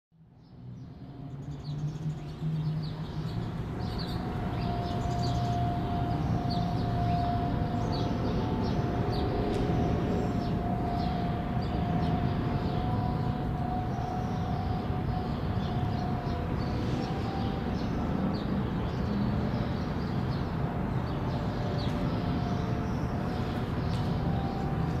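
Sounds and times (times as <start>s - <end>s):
low traffic rumble: 0.2s - 25.0s
birds chirping: 1.3s - 25.0s
warning siren steady tone: 1.6s - 25.0s.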